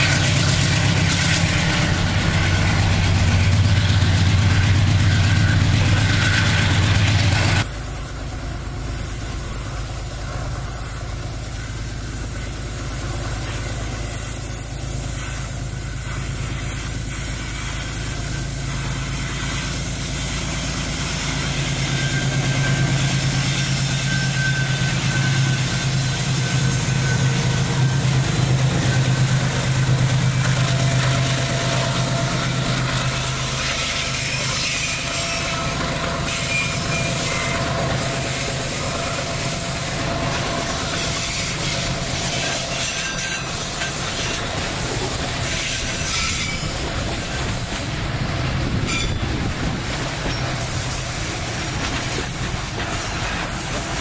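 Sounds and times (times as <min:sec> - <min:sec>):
locomotive engines droning: 0:00.0 - 0:54.0.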